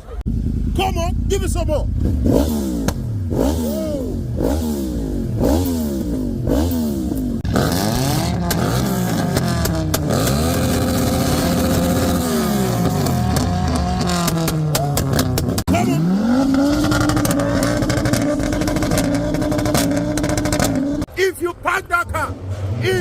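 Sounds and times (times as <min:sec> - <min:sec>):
exhaust crackles: 0:00.0 - 0:21.1
car engine revving: 0:00.3 - 0:21.1.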